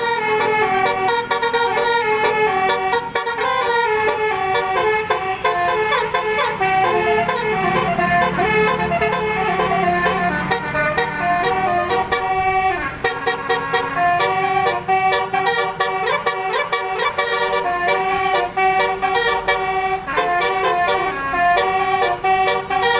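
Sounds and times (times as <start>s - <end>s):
musical horn playing a tune: 0.0s - 22.9s.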